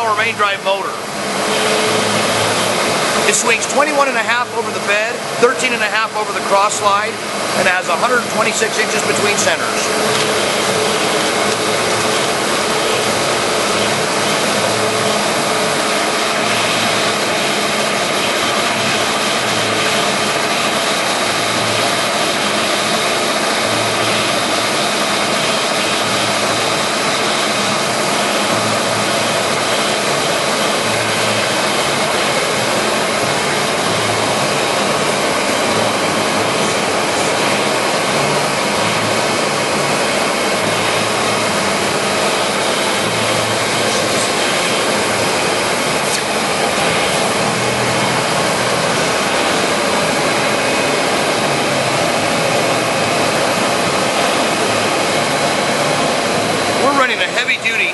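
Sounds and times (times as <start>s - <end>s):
lathe running with mechanical hum: 0.0s - 57.9s.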